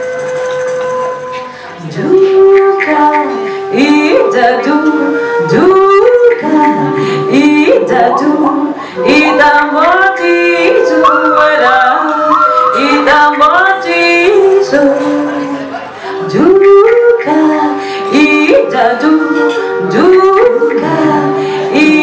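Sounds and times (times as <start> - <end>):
woman singing into a microphone: 0.0 - 22.0.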